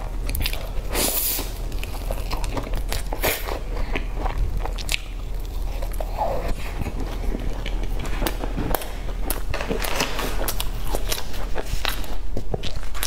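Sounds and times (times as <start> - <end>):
chewing crunchy pastry: 0.0 - 13.0
low hum: 0.0 - 13.0.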